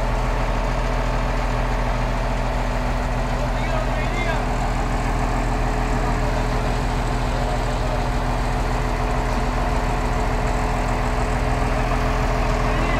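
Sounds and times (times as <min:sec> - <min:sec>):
large diesel engine running: 0:00.0 - 0:12.9.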